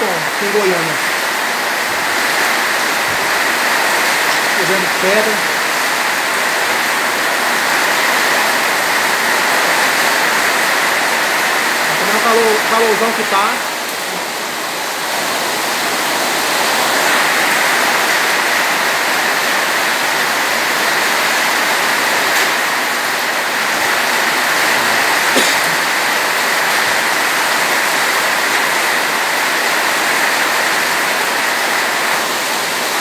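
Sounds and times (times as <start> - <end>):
heavy rain splashing on concrete: 0.0 - 33.0.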